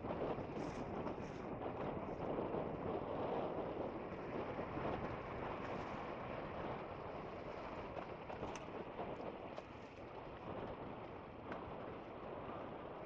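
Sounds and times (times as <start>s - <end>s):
boat rushing on water: 0.0s - 13.0s
wind on microphone: 0.0s - 13.0s.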